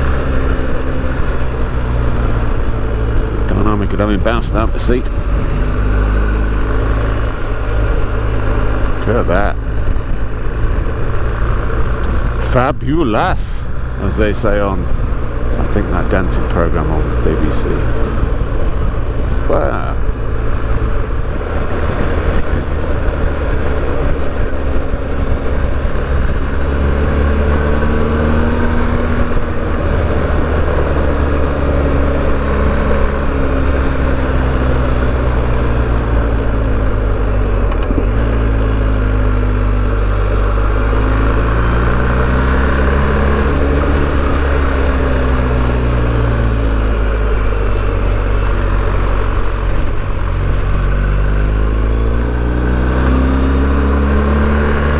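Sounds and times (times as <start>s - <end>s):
motorcycle engine revving: 0.0s - 54.9s
wind and road rush: 0.0s - 54.9s.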